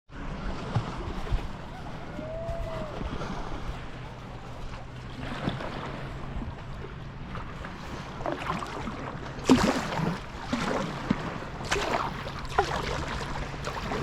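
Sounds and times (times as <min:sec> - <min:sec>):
water lapping against hull: 0:00.1 - 0:14.0
wind buffeting microphone: 0:00.2 - 0:14.0.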